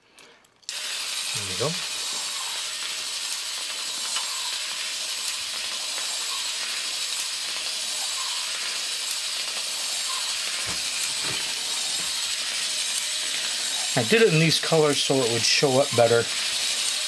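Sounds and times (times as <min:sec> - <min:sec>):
robot motor whirring: 0:00.7 - 0:17.0.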